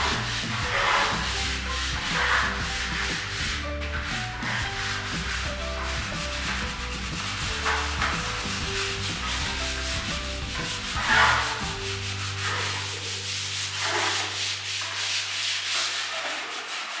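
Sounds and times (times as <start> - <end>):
putty scraping across plaster wall: 0.0 - 17.0.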